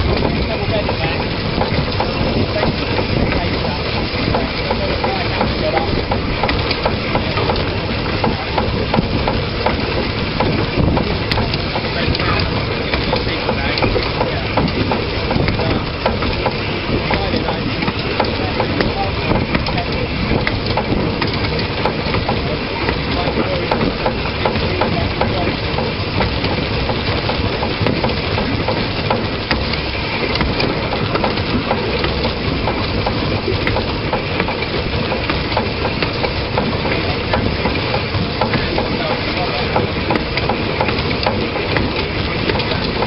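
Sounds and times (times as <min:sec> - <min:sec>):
train rumbling and rattling: 0:00.0 - 0:43.0
wheels clicking on rails: 0:00.0 - 0:43.0.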